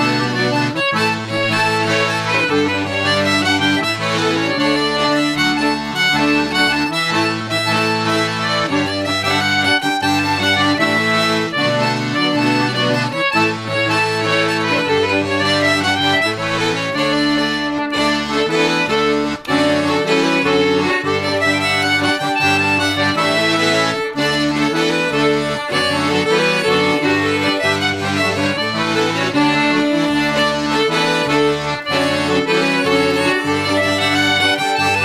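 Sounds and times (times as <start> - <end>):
folk music with accordion: 0.0 - 35.0.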